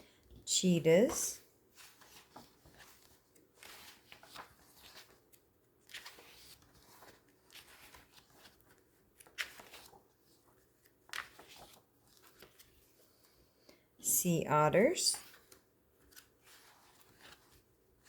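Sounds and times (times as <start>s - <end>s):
magazine pages flipping: 0.2s - 13.4s, 15.1s - 18.0s.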